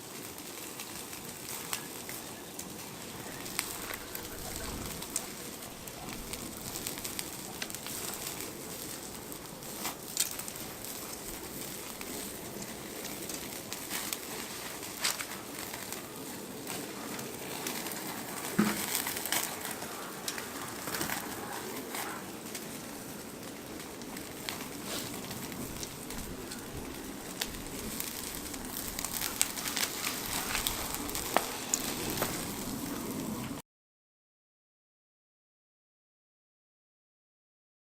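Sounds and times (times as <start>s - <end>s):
fire crackling and popping: 0.0s - 33.6s.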